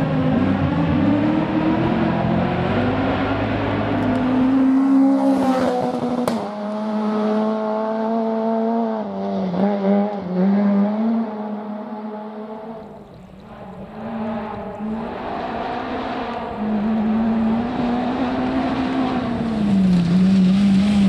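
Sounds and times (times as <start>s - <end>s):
rally car engine at full throttle: 0.0s - 21.0s.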